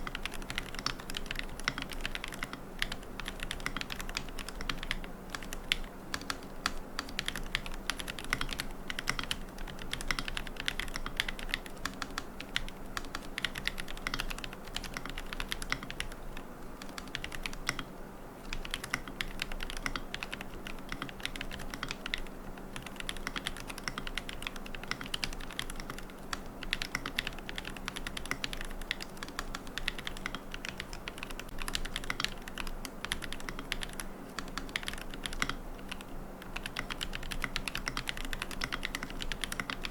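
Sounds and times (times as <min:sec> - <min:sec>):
faint low hum: 0:00.0 - 0:39.9
mechanical keyboard typing: 0:00.0 - 0:39.9.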